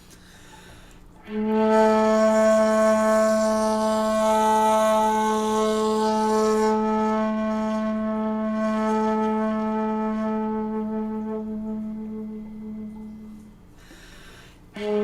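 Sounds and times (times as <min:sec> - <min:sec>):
bamboo flute long low note: 0:01.2 - 0:14.0, 0:14.7 - 0:15.0.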